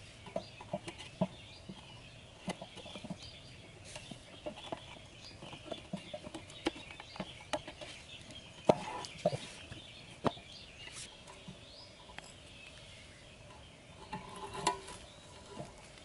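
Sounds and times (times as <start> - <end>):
clicks and knocks of handling sticks: 0.2 - 16.0.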